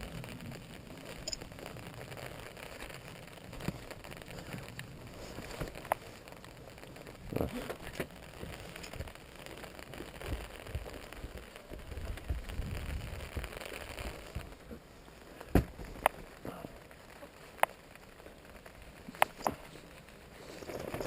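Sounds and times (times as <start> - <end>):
drops ticking on canopy: 0.0 - 14.7, 15.3 - 21.0
rain falling on an umbrella: 0.0 - 21.0.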